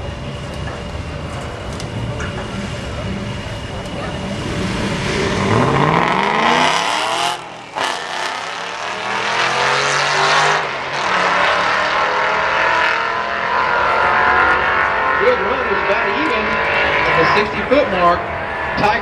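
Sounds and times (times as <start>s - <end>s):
cars accelerating hard: 1.8s - 19.0s.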